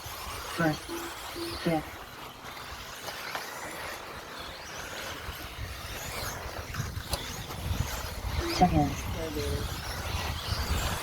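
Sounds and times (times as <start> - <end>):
electric motor whine: 0.0 - 11.0
tyre and drivetrain noise: 0.0 - 11.0.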